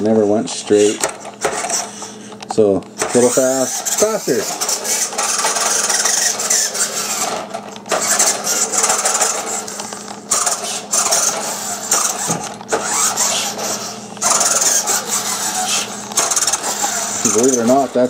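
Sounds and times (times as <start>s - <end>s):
toy truck motor whining: 0.0s - 18.0s.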